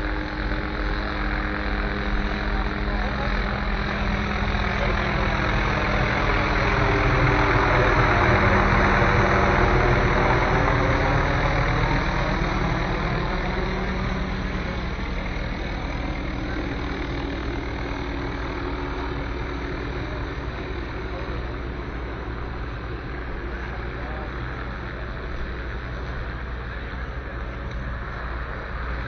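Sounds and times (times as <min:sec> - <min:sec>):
helicopter rotor and engine drone: 0:00.0 - 0:29.0.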